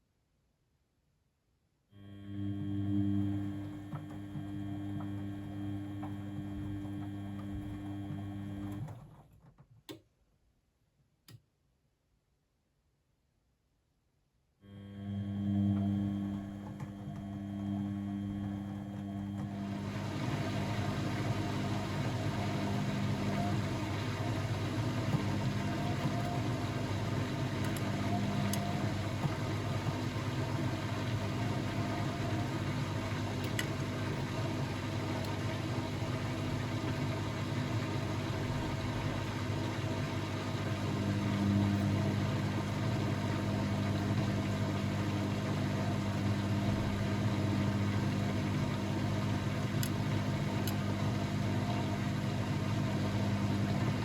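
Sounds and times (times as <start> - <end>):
washing machine motor hum: 2.0 - 9.3, 14.7 - 54.0.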